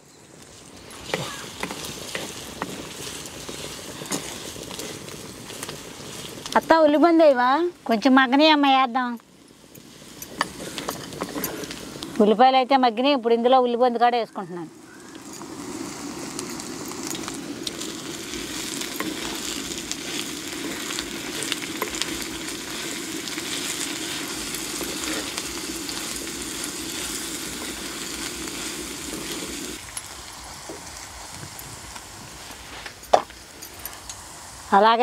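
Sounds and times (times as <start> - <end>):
vegetables sizzling in hot oil: 0.0 - 35.0.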